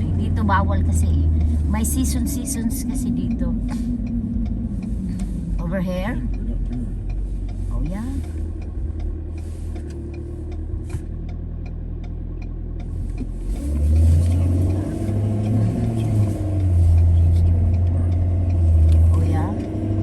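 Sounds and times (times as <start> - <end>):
car engine and road hum: 0.0 - 20.0
turn signal ticking: 0.0 - 20.0.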